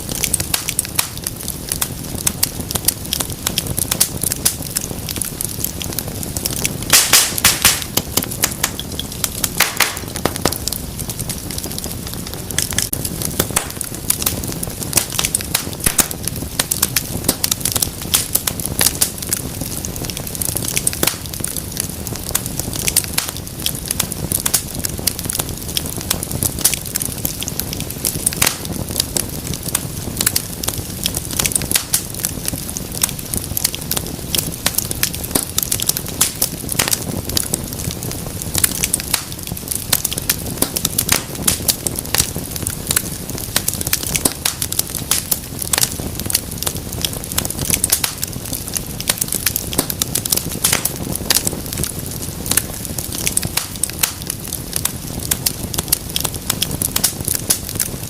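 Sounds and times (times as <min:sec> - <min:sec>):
burning logs crackling and popping: 0:00.0 - 0:58.0
low rumble of flame: 0:00.0 - 0:58.0.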